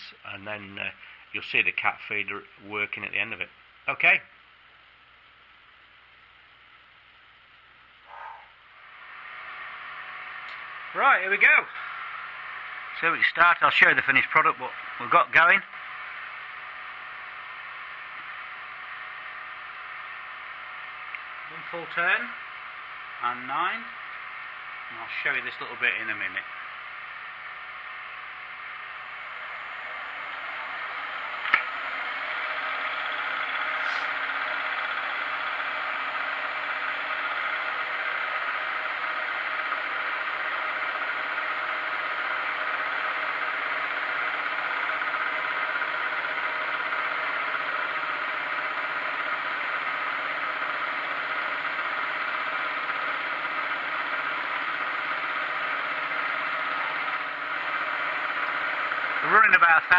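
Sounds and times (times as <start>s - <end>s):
milling machine cutting metal: 9.2s - 59.9s.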